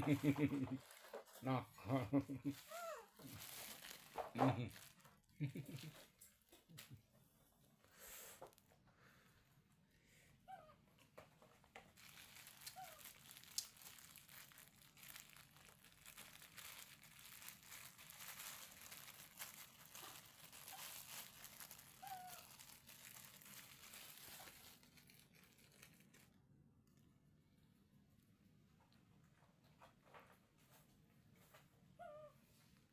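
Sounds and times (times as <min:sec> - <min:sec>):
faint crinkling and rustling: 0:00.0 - 0:09.3, 0:10.7 - 0:32.9.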